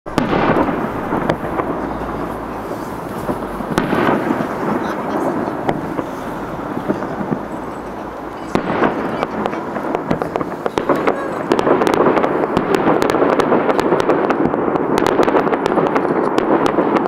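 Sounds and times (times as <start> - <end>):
fireworks bursting with sharp bangs: 0.1 - 17.0.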